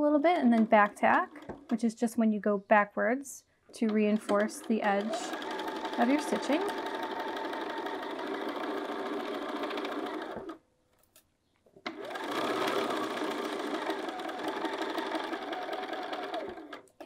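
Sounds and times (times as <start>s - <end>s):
sewing machine stitching: 0.2s - 2.0s, 3.8s - 10.6s, 11.9s - 17.0s.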